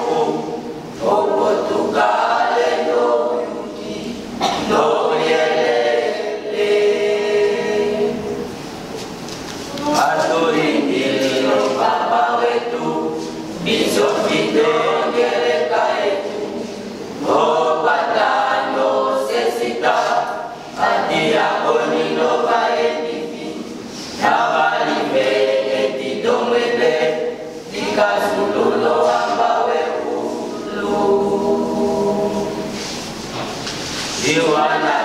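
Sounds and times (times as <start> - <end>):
children's choir singing a cappella: 0.0 - 35.0.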